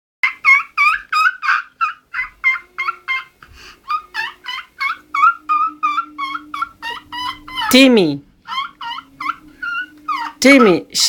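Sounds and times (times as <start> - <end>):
high-pitched gobbling calls: 0.2 - 7.9, 8.5 - 10.8.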